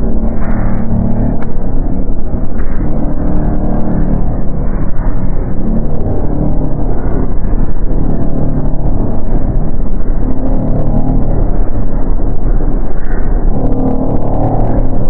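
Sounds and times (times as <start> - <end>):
dark ambient drone: 0.0 - 15.0.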